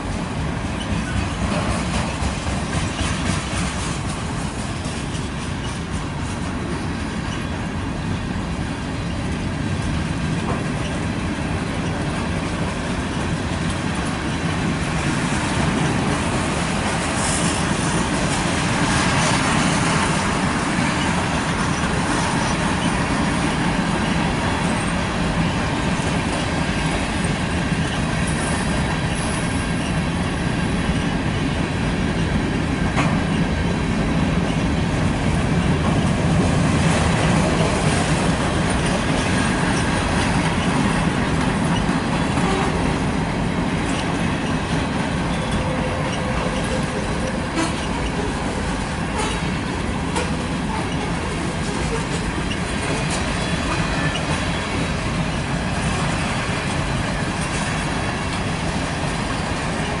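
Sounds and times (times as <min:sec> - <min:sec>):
freight train wheels rumbling: 0:00.0 - 1:00.0
wheels clicking on rails: 0:00.0 - 1:00.0.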